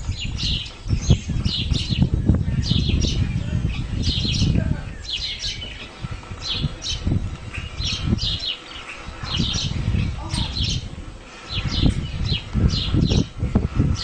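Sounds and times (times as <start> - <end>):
small bird chirping: 0.0 - 13.3.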